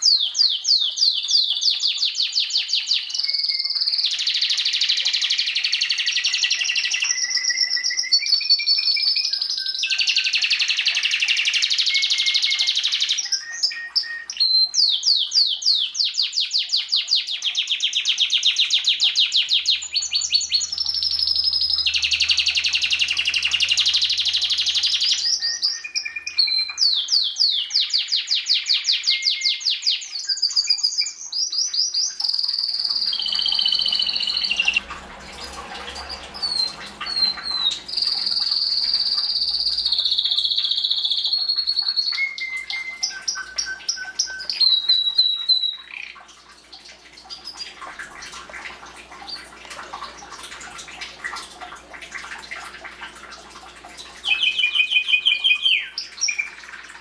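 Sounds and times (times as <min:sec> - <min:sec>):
canary singing trills: 0:00.0 - 0:46.3, 0:54.2 - 0:56.7.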